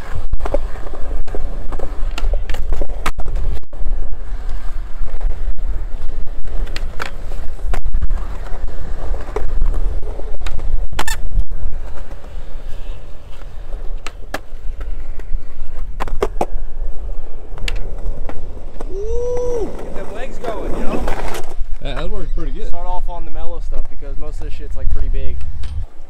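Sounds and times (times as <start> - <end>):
skateboard clicks and clacks: 0.0 - 16.6, 17.4 - 22.1
skateboard wheels rolling on concrete: 0.0 - 26.0.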